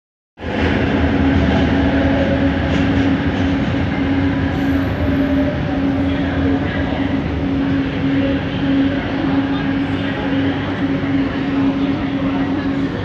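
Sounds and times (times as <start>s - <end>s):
train motor tone: 0.4s - 13.0s
wheels rumbling on track: 0.4s - 13.0s.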